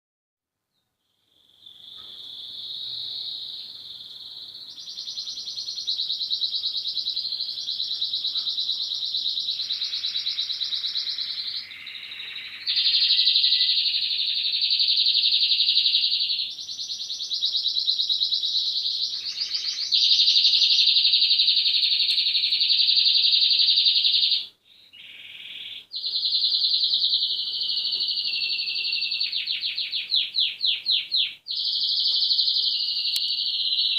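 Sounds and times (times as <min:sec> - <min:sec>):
canaries singing trills: 0:01.4 - 0:33.9.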